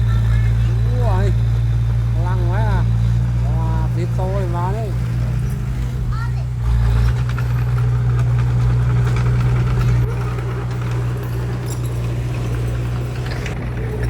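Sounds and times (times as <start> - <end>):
heavy diesel engine droning: 0.0 - 14.0.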